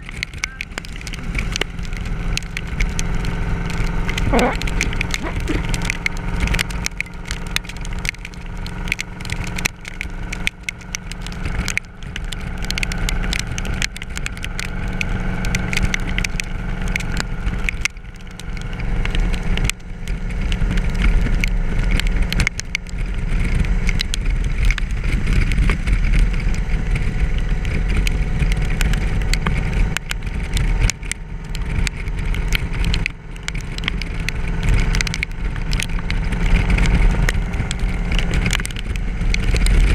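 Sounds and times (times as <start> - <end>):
crackling ticks: 0.0 - 39.9
motorcycle engine running: 0.0 - 39.9
wind rush on microphone: 0.0 - 39.9.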